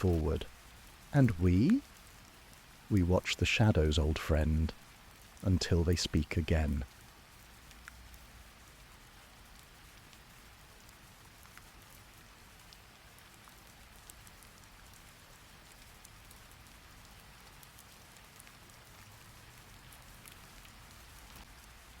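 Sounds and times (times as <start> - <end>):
raindrop ticks: 0.0 - 22.0
soft steady rain: 0.0 - 22.0.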